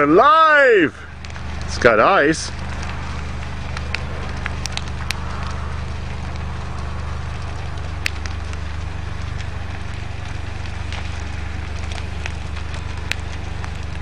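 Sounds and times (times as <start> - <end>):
burning wood crackling and popping: 0.0 - 14.0
fire low rumble: 0.0 - 14.0.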